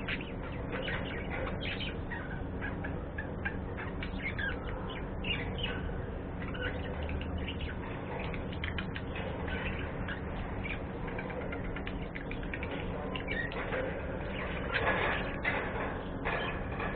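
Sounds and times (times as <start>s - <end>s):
budgerigars chirping: 0.0s - 16.9s
steady low hum: 0.0s - 16.9s.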